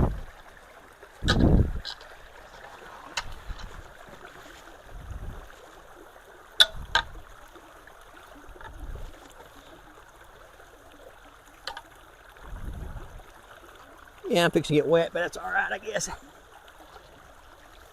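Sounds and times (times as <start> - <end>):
creek water flowing: 0.0 - 17.9
rain: 0.0 - 17.9.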